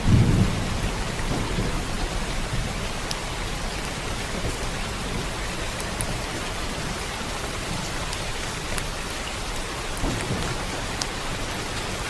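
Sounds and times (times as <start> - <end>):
thunder rumble: 0.0 - 7.9, 9.5 - 12.0
steady rain: 0.0 - 12.0.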